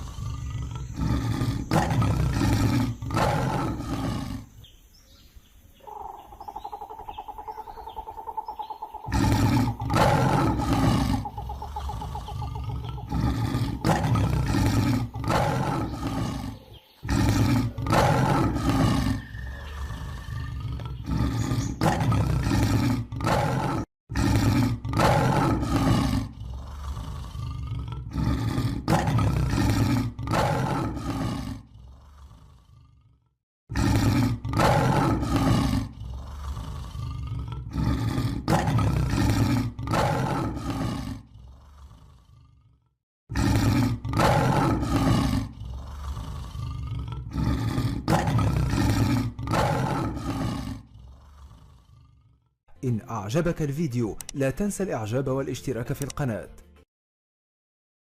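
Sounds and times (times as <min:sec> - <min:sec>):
lion roaring: 0:00.0 - 0:04.6, 0:07.6 - 0:52.5.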